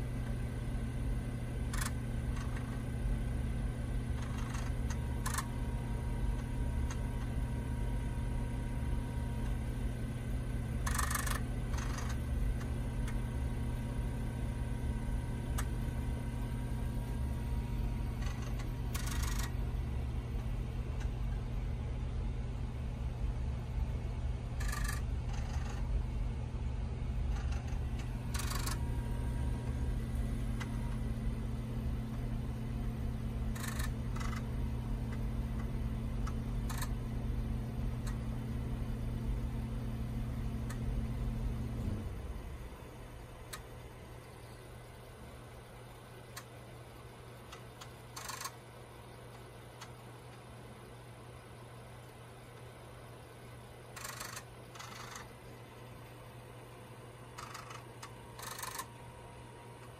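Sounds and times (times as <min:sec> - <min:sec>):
disk drive head chatter: 0:00.0 - 0:59.9
floppy disk drive motor hum: 0:00.0 - 0:59.9.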